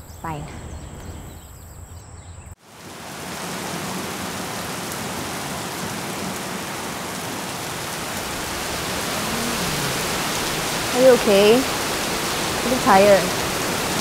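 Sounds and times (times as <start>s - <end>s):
steady rain: 2.6s - 14.0s.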